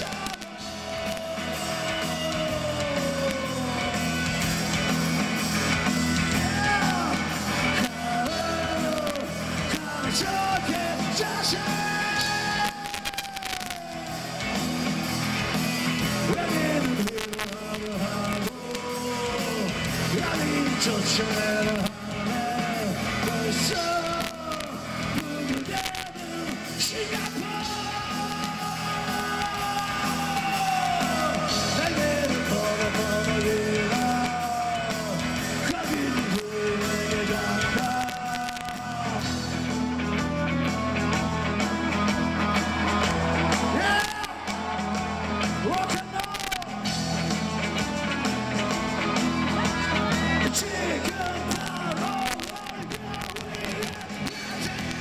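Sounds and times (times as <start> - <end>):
person singing: 0.0 - 4.6, 6.2 - 14.6, 15.9 - 55.0
bass guitar: 0.0 - 55.0
drums: 0.0 - 55.0
electric guitar: 0.0 - 55.0.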